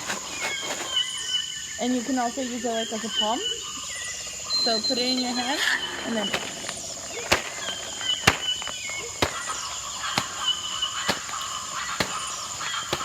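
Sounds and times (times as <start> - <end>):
chirping: 0.0 - 13.0.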